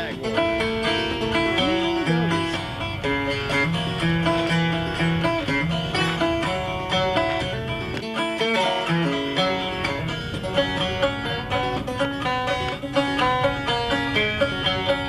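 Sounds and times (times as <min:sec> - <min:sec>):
bluegrass music: 0:00.0 - 0:15.0.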